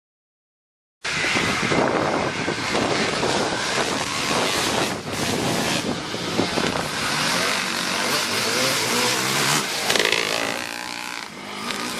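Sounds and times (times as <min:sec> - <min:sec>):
motocross motorcycle engines: 0:01.0 - 0:11.9
wind buffeting microphone: 0:01.1 - 0:11.0.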